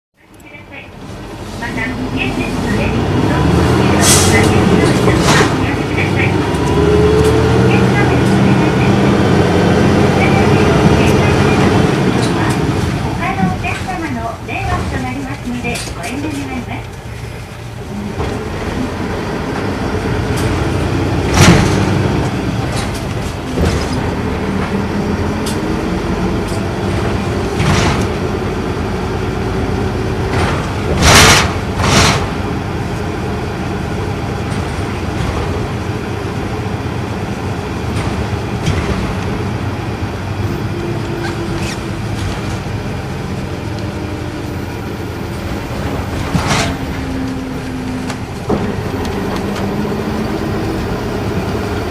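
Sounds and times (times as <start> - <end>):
bus engine and road drone: 0.2 - 51.9
drivetrain whine: 0.2 - 51.9.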